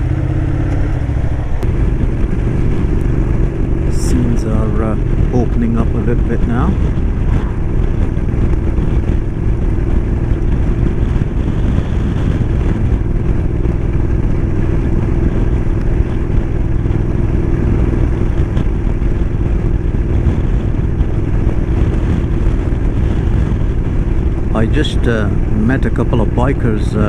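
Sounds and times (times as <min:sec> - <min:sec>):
motorcycle engine droning: 0:00.0 - 0:27.0
wind and road noise: 0:00.0 - 0:27.0.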